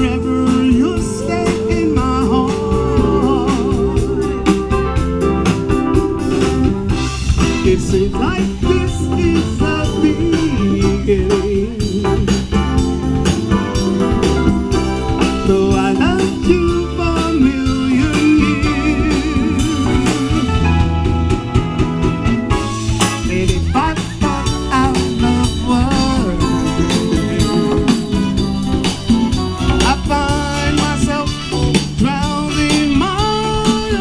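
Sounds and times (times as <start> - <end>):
live soul band playing: 0.0 - 34.0.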